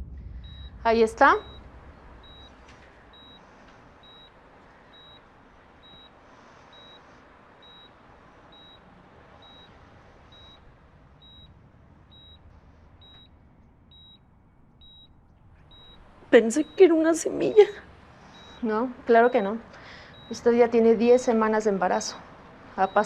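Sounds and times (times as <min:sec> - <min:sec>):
low hiss: 0:00.0 - 0:23.0
medical monitor beeping: 0:00.4 - 0:01.6, 0:02.2 - 0:23.0.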